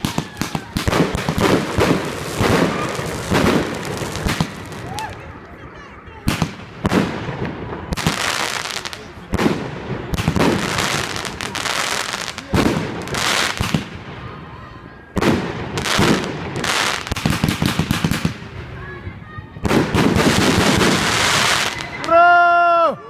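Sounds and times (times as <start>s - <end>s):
crackling hiss of bursting fireworks: 0.0s - 5.2s, 6.2s - 14.5s, 15.1s - 18.8s, 19.6s - 22.2s
fireworks bangs: 0.0s - 5.2s, 6.2s - 18.7s, 19.5s - 22.2s.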